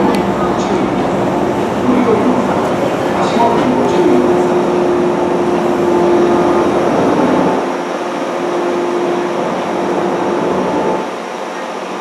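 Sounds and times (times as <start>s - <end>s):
rail running noise: 0.0s - 12.0s
train motor hum: 0.0s - 12.0s.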